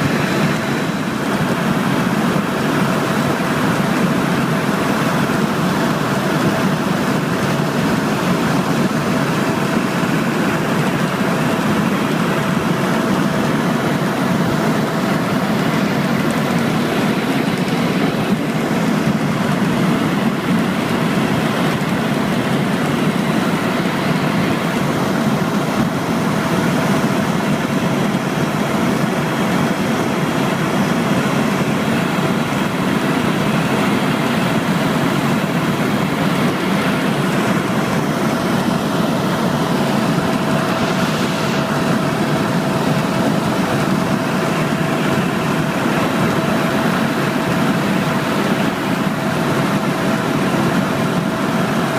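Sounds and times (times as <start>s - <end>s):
helicopter engine and rotor drone: 0.0s - 51.9s
thin steady whine: 0.0s - 51.9s.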